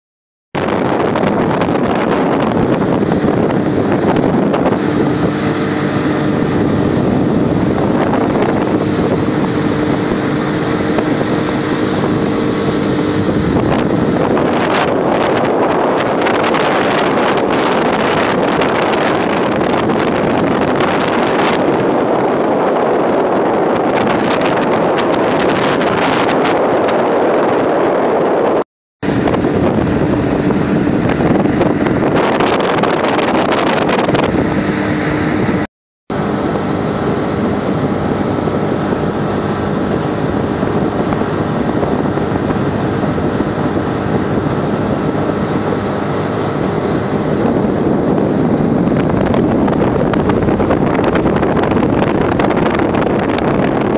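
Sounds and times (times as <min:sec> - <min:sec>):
outboard motor running: 0:00.6 - 0:53.9
wind buffeting microphone: 0:00.6 - 0:53.9.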